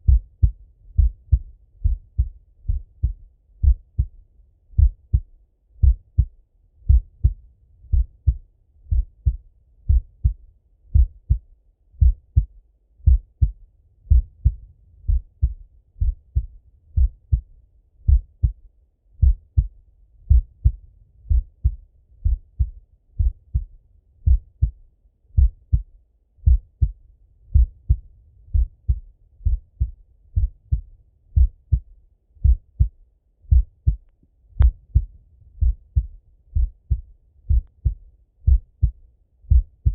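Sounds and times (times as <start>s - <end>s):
heartbeat through stethoscope: 0.0s - 18.6s, 19.2s - 39.9s.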